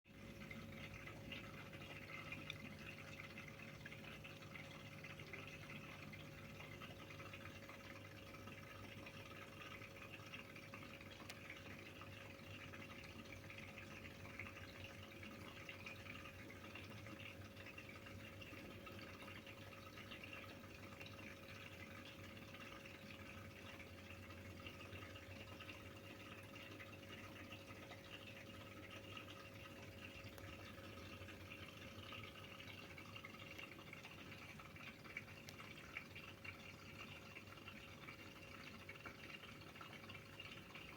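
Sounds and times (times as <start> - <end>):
aquarium filter hum: 0.1 - 40.9
trickle of water: 0.1 - 40.9.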